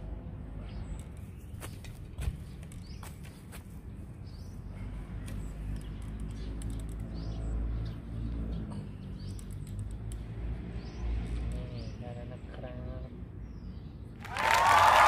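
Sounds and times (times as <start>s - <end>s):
birds chirping: 0.0s - 14.2s.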